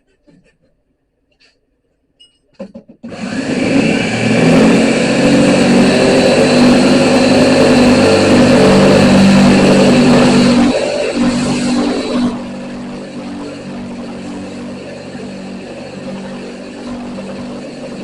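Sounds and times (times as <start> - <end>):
angle grinder on steel: 3.1 - 18.0.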